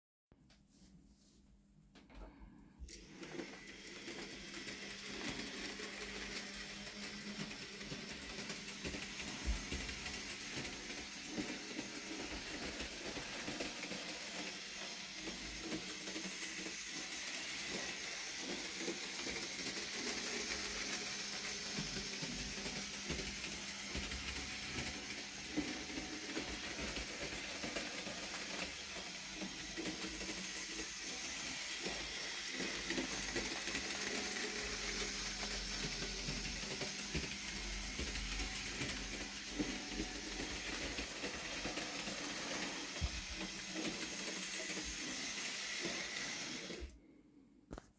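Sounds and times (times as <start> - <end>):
model train motor whirring: 2.9 - 47.0.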